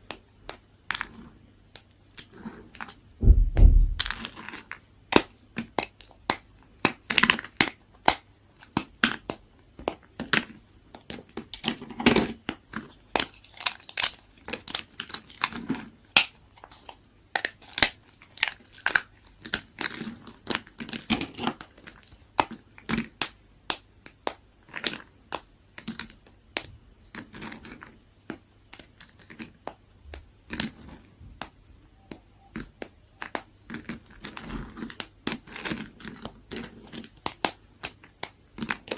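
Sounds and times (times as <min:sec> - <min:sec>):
knife cutting brittle soap: 0:04.1 - 0:31.6, 0:32.6 - 0:38.9.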